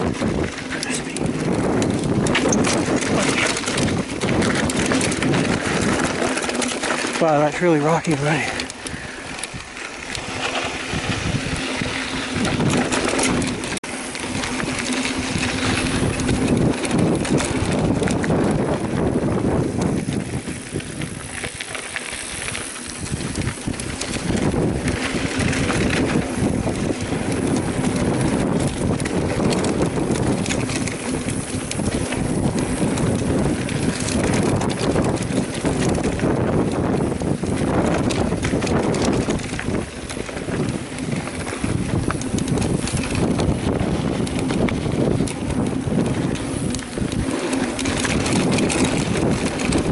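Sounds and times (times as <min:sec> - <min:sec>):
bike rattling over rocks: 0:00.0 - 0:49.9.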